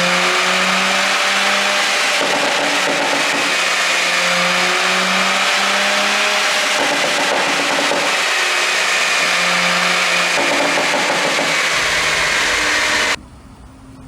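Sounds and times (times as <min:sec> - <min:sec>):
car engine under load: 0:00.0 - 0:13.2
loud rushing exhaust: 0:00.0 - 0:13.2
road noise: 0:00.0 - 0:13.2.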